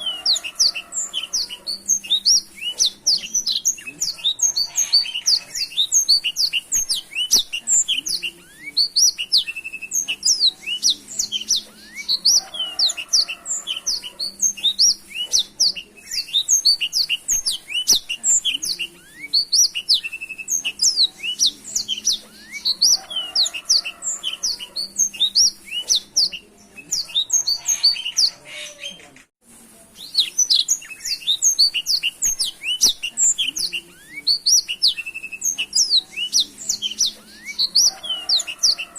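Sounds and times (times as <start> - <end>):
canary singing: 0.0 - 29.3, 30.0 - 38.9.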